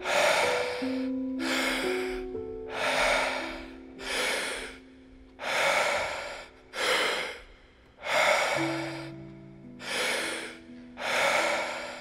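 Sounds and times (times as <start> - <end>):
deep rhythmic breathing: 0.0 - 12.0
soft music of held tones: 0.0 - 12.0.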